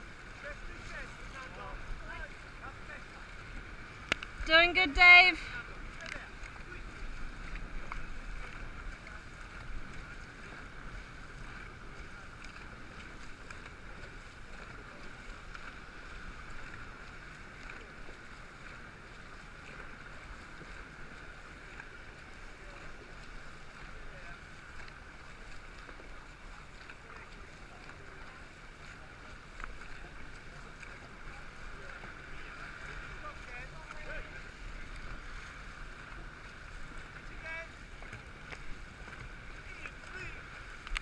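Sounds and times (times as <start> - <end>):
water washing around boat: 0.0 - 41.0
wind: 0.0 - 41.0.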